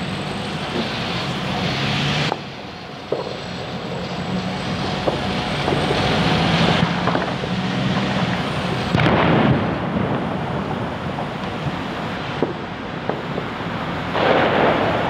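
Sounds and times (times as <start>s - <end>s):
distant fireworks bangs and crackles: 0.0s - 15.0s
steady rushing noise: 0.0s - 15.0s.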